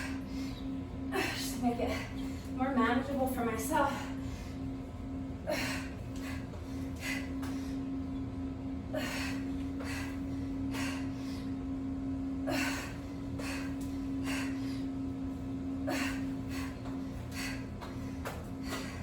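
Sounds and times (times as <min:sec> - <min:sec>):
woman breathing hard: 0:00.0 - 0:02.6, 0:03.9 - 0:08.0, 0:08.9 - 0:11.8, 0:12.4 - 0:19.0
steady low hum: 0:00.0 - 0:19.0.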